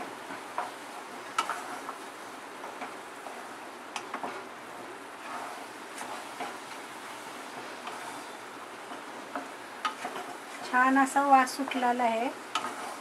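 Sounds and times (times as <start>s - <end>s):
spatula scraping pan: 0.0s - 13.0s.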